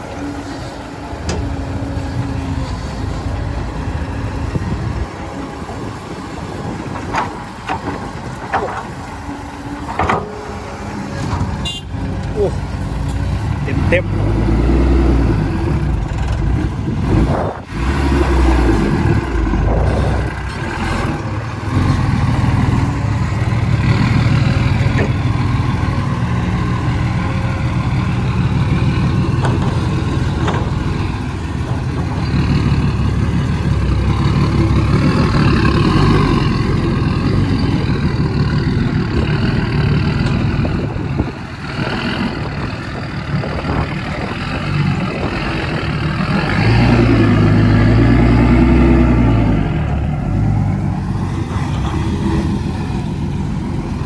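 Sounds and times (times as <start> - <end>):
truck engine under load: 0.0 - 54.0.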